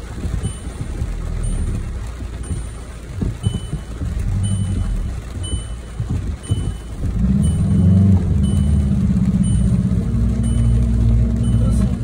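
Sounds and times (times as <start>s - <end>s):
car engine running at low revs: 0.0s - 12.0s
short electronic warning beep: 0.4s - 2.7s, 3.4s - 12.0s.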